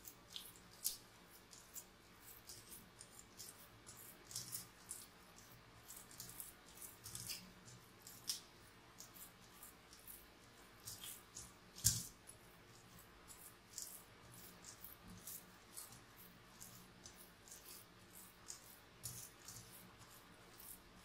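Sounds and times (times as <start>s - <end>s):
dough squelching and slapping: 0.0s - 21.0s.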